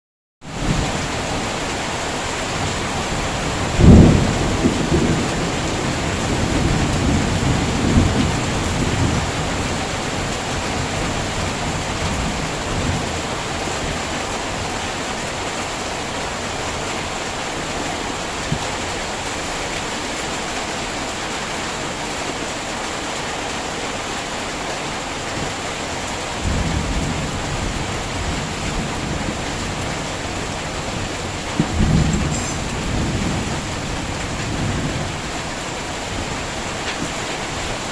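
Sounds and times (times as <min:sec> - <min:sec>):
heavy rain hissing: 0:00.5 - 0:37.9.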